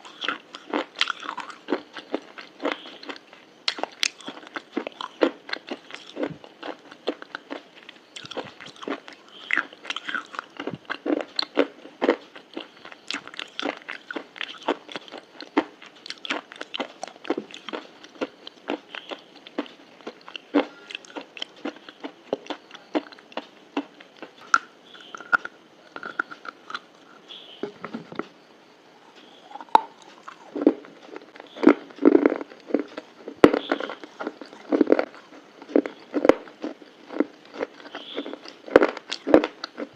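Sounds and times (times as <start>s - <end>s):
crunchy chewing: 0.0s - 28.4s, 29.0s - 39.9s.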